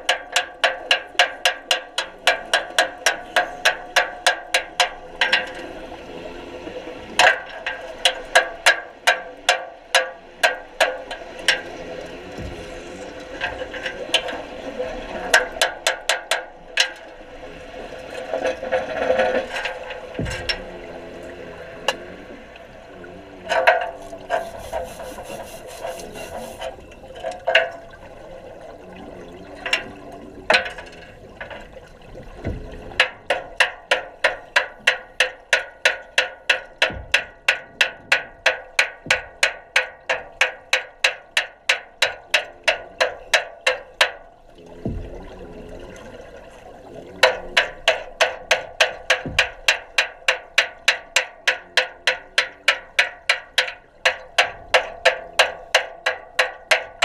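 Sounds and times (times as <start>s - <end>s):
knocks underwater: 0.0s - 57.0s
underwater bubbling: 0.0s - 57.0s.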